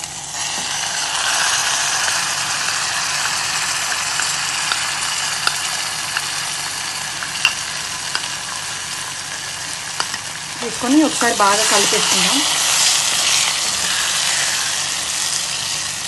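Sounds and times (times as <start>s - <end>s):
oil sizzling in a pot: 0.0s - 16.0s.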